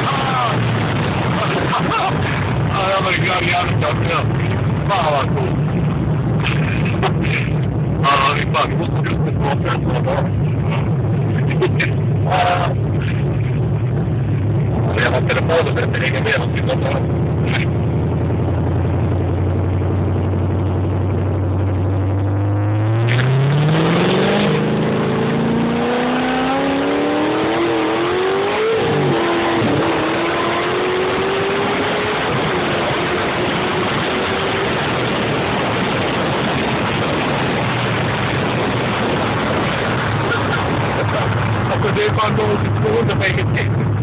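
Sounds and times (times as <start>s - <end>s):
car engine accelerating: 0.0s - 44.0s
road and wind noise: 0.0s - 44.0s.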